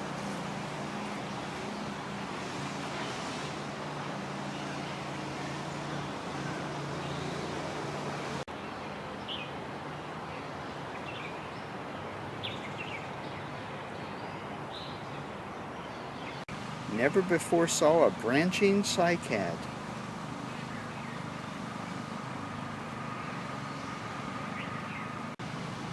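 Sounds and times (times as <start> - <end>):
traffic hum: 0.0 - 25.9.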